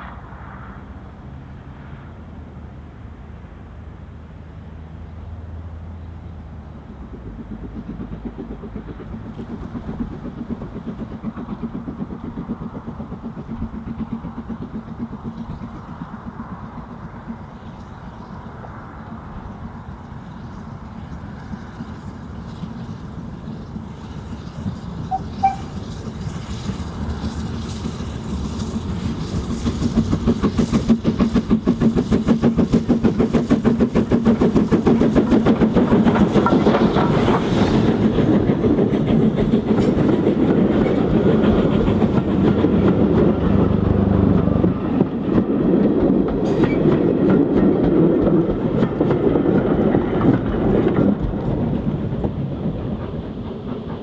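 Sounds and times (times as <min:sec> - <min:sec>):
steam train passing: 0:00.0 - 0:54.0
wheels clattering on rails: 0:06.0 - 0:54.0.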